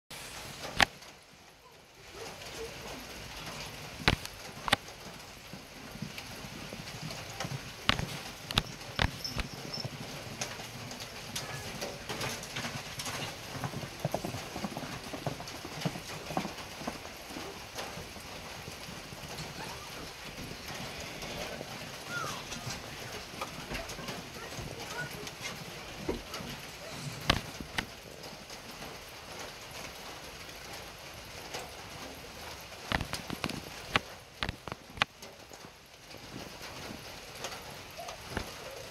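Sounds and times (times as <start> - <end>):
light rain falling: 0.1 - 38.9
horse hoofbeats on dirt: 2.1 - 38.9.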